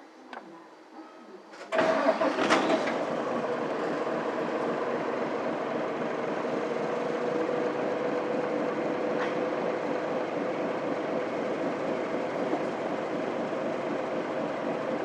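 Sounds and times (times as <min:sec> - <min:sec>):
diesel engine starting and idling: 0:01.7 - 0:15.0.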